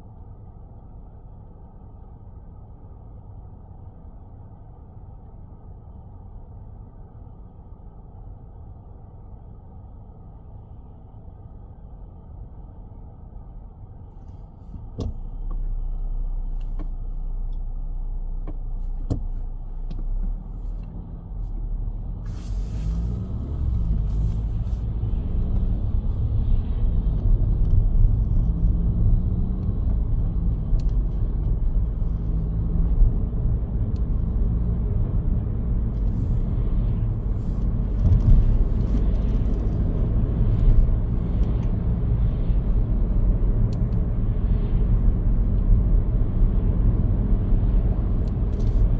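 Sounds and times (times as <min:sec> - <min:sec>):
car engine and tyre noise: 0:00.0 - 0:48.9.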